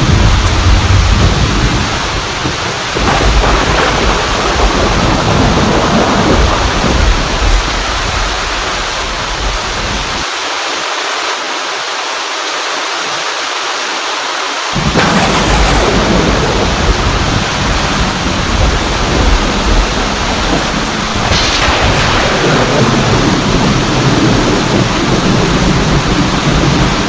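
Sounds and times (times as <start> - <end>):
thunder rumbling: 0.0 - 10.2, 14.8 - 27.0
heavy rain: 0.0 - 27.0.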